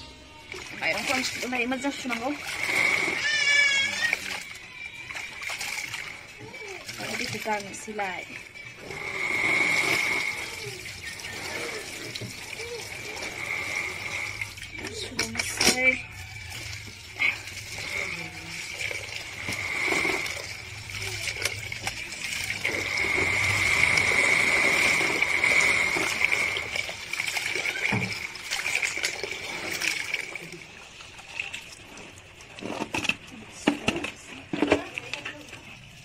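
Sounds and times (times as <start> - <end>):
tap water running into pot: 0.4 - 36.0.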